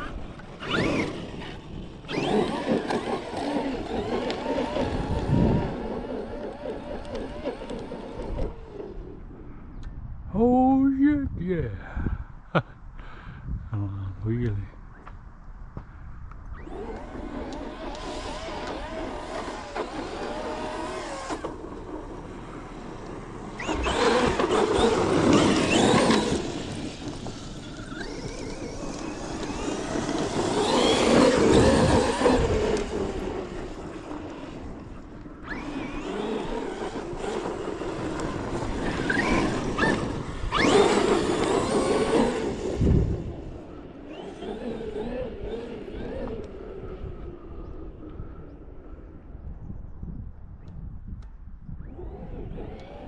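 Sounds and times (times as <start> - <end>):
rc truck electric motor whining: 0.0 - 9.5, 16.4 - 49.1, 51.8 - 53.0.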